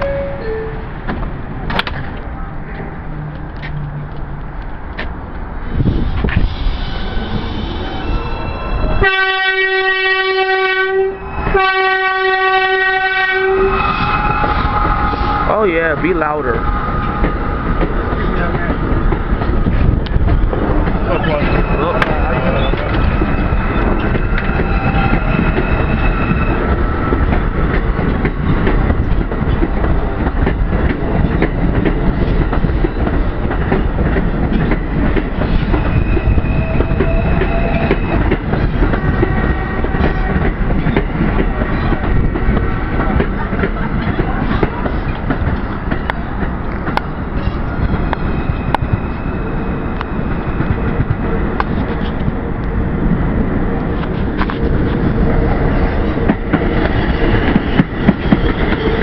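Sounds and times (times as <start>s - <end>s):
subway train wheels rumbling on rail: 0.0s - 59.0s.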